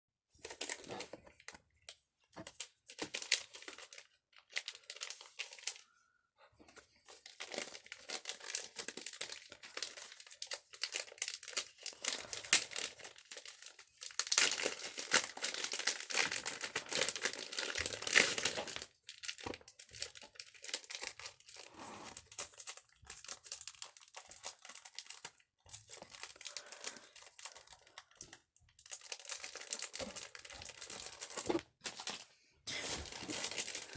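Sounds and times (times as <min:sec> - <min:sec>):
plastic packaging crinkling: 0:02.4 - 0:05.9, 0:07.1 - 0:33.9.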